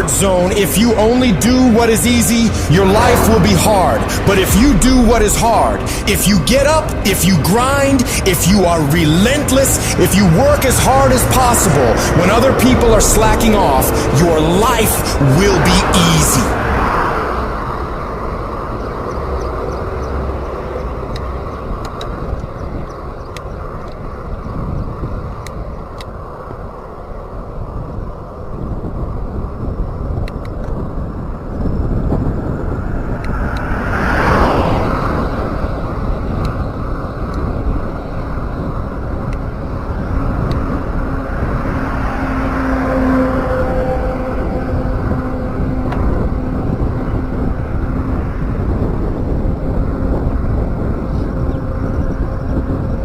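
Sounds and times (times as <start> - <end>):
rushing wind and road noise: 0.0 - 53.0.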